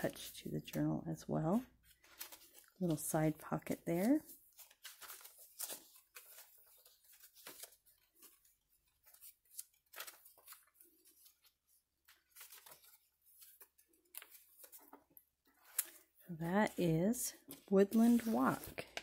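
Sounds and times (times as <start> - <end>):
paper pages turning: 1.8 - 19.0.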